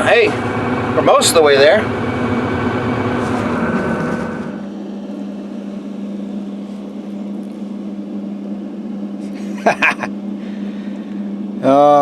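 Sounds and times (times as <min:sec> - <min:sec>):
engine humming: 0:00.0 - 0:11.2
deep rumble and hiss: 0:00.0 - 0:12.0.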